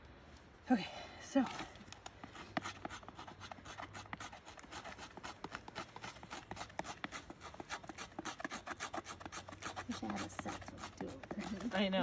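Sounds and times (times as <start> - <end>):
knife scraping bark: 2.2 - 12.0.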